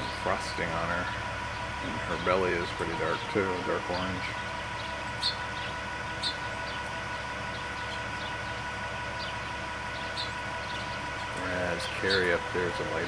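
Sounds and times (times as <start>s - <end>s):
low mechanical hum: 0.0s - 13.0s
high bird chirps: 1.1s - 12.4s.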